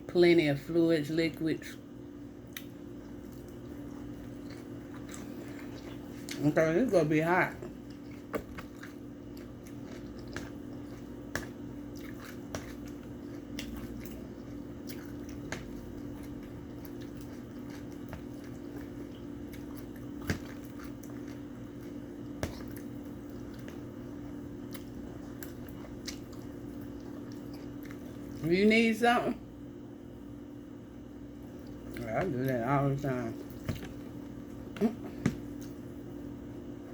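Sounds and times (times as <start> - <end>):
steady low hum: 0.0 - 36.9
person chewing food: 2.3 - 6.6, 7.5 - 28.5, 31.2 - 36.9.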